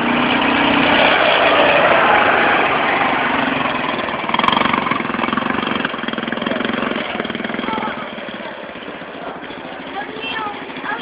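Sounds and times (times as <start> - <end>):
atv engine passing: 0.0 - 11.0.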